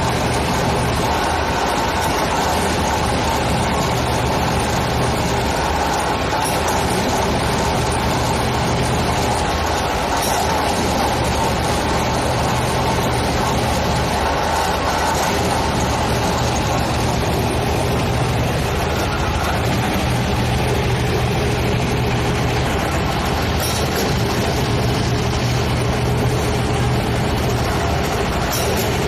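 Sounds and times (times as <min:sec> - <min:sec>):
heavy diesel engine humming: 0:00.0 - 0:29.0.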